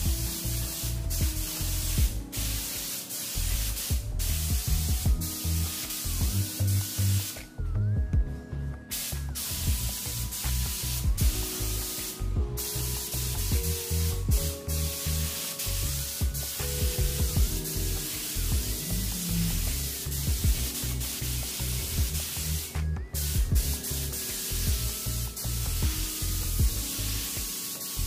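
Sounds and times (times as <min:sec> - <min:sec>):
paint spray gun hissing: 0:00.0 - 0:07.6, 0:08.9 - 0:28.0
background music with a beat: 0:00.0 - 0:28.0.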